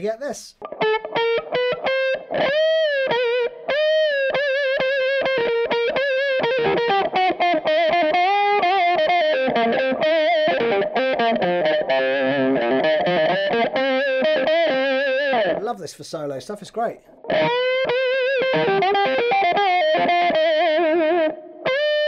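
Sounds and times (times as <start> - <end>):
electric guitar solo with wah tone: 0.6 - 15.6, 17.1 - 22.0.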